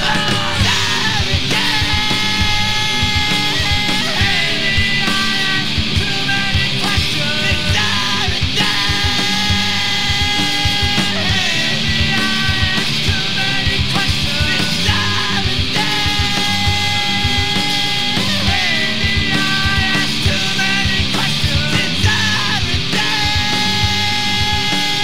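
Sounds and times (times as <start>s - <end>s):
drum beat: 0.0s - 25.0s
electric guitar chords: 0.0s - 25.0s
rock band playing: 0.0s - 25.0s.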